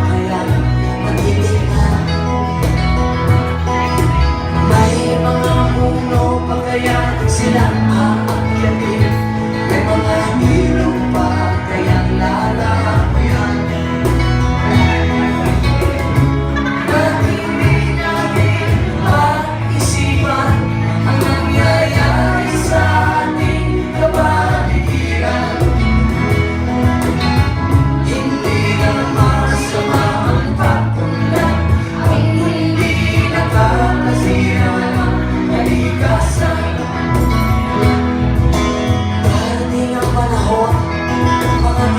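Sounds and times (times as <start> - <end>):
person singing: 0.0 - 38.1, 38.9 - 41.9
electric bass: 0.0 - 41.9
guitars: 0.0 - 41.9
keyboard: 0.0 - 41.9.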